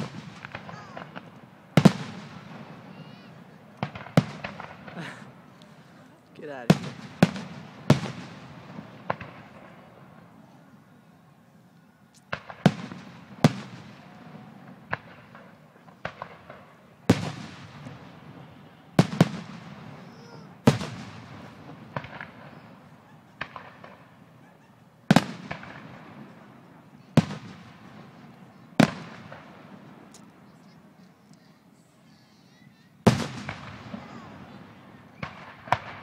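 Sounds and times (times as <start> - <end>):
fireworks bangs echoing: 0.0 - 36.0.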